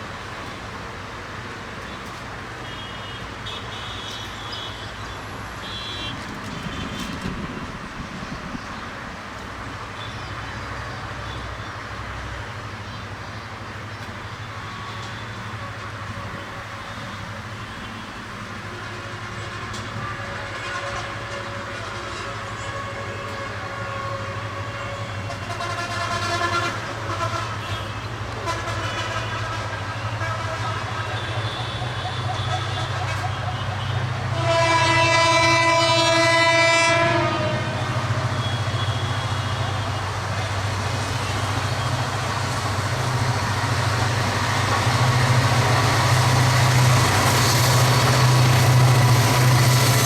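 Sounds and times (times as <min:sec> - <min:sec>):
passenger train rumbling: 0:00.0 - 0:50.0
locomotive horn blast: 0:02.5 - 0:07.8, 0:14.5 - 0:50.0.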